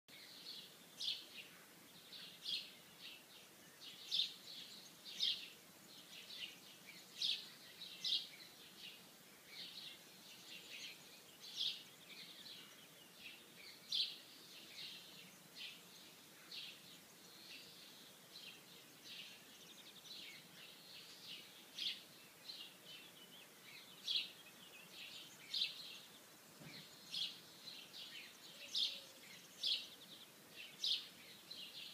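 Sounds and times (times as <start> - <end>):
small birds chirping: 0.1 - 31.9.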